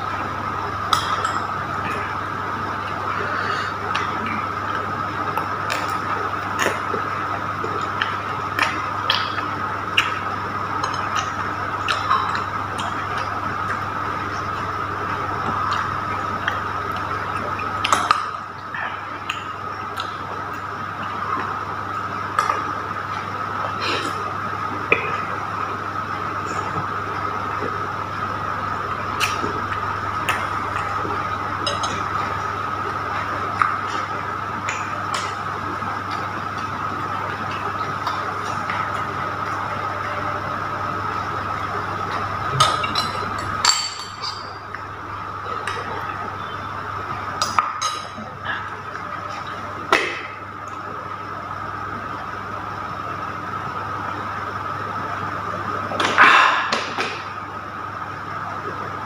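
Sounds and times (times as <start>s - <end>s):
background hum: 0.0s - 59.0s.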